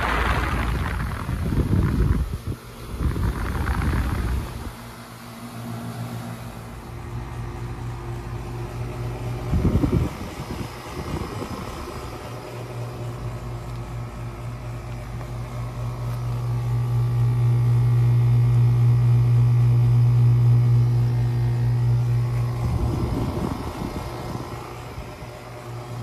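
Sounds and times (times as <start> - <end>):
compressor hum: 0.0 - 26.0
outdoor fan rushing: 0.0 - 26.0.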